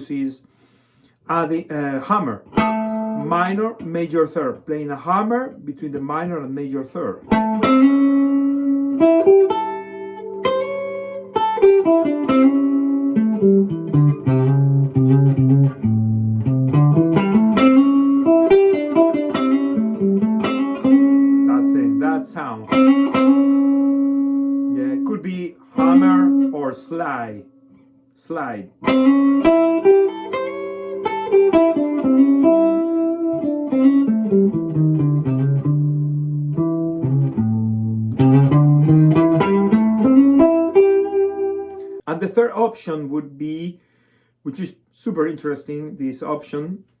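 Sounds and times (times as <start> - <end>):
blues guitar phrase: 1.3 - 43.6.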